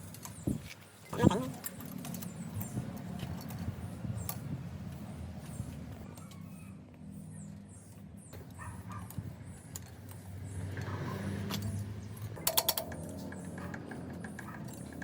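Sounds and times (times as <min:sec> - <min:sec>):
rattle of metallic clicks: 0:00.0 - 0:06.4, 0:08.4 - 0:15.0.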